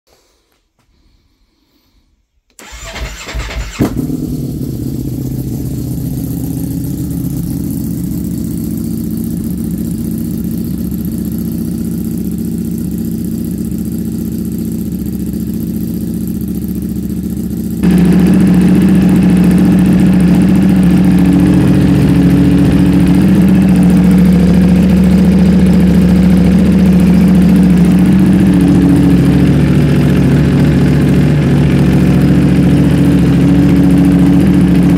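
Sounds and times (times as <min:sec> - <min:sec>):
motorcycle engine idling: 0:02.6 - 0:34.9.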